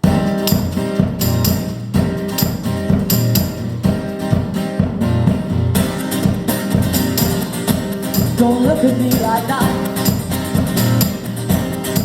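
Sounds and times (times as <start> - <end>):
steady percussive beat: 0.0 - 12.0
strummed acoustic guitar: 0.0 - 12.0.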